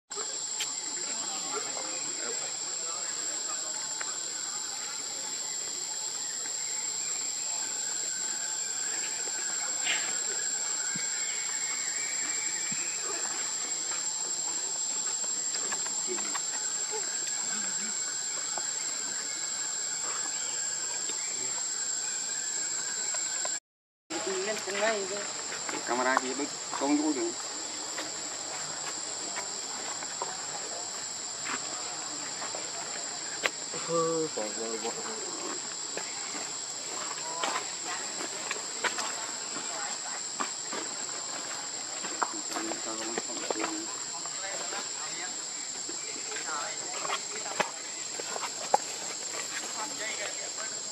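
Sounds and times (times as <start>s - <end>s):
insects droning: 0.1s - 50.9s.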